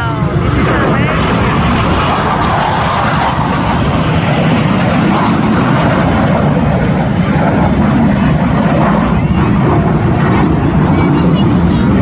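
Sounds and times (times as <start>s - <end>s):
jet aircraft flying over: 0.0s - 12.0s.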